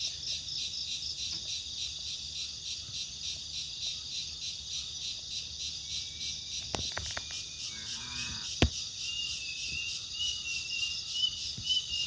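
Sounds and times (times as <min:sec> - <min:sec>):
insect chorus pulsing trill: 0:00.0 - 0:12.0.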